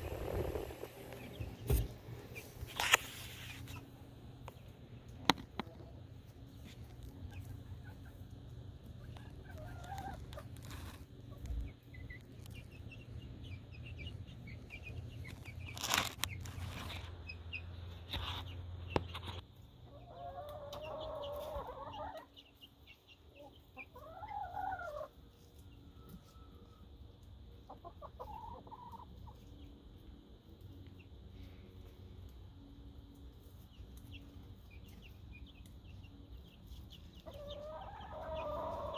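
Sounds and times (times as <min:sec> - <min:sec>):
steady low hum: 0:00.0 - 0:20.1, 0:25.1 - 0:37.4
chicks peeping: 0:00.0 - 0:38.9
hens clucking: 0:00.0 - 0:38.9.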